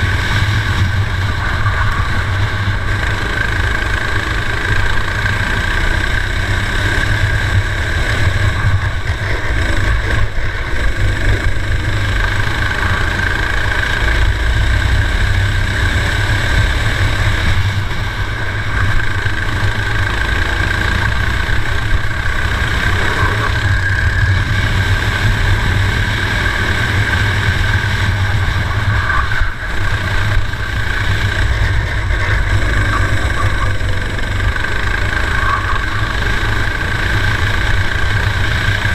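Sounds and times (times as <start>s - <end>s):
kart engine under load: 0.0s - 38.9s
low rumble: 0.0s - 38.9s.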